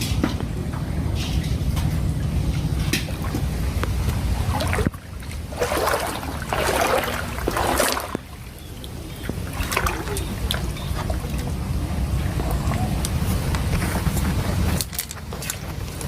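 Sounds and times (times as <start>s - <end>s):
wind rumble on microphone: 0.0s - 16.0s
water splashing and trickling: 1.2s - 16.0s.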